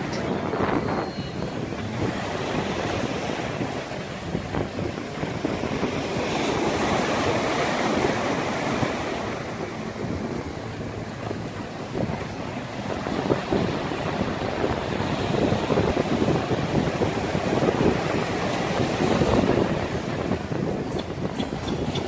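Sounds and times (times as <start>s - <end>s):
wind buffeting microphone: 0.0s - 22.0s
surf breaking over rocks: 1.7s - 21.3s.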